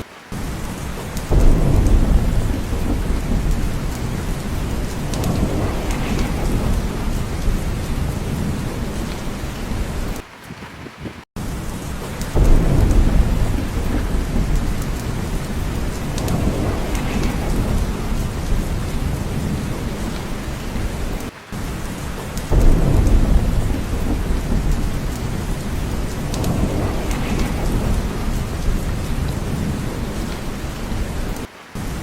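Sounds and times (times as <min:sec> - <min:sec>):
deep roll of thunder: 0:00.0 - 0:31.5
heavy rain: 0:00.0 - 0:32.0.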